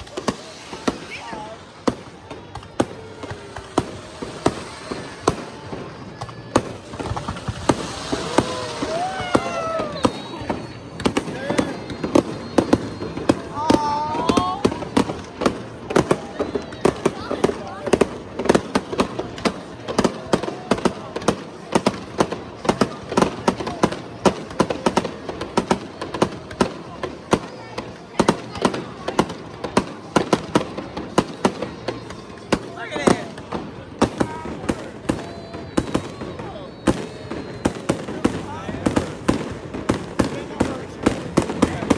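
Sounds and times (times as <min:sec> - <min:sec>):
fireworks bursting with bangs: 0:00.0 - 0:41.9
fireworks crackling: 0:00.0 - 0:41.9.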